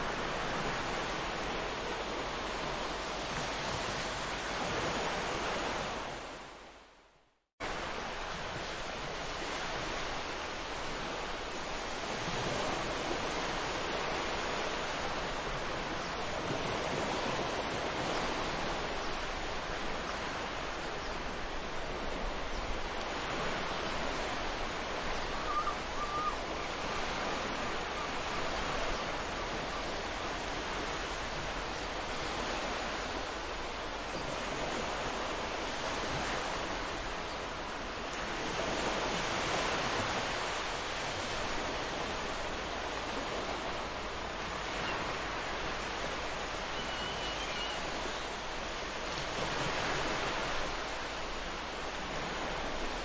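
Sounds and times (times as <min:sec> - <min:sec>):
ocean waves washing onto beach: 0:00.0 - 0:53.0.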